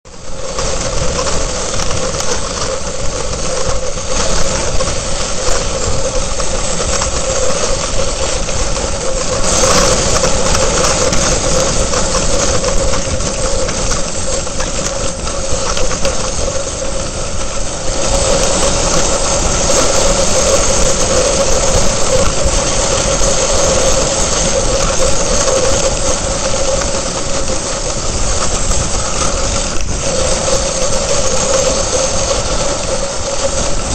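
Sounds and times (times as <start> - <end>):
sled runners scraping on snow: 0.1 - 33.9.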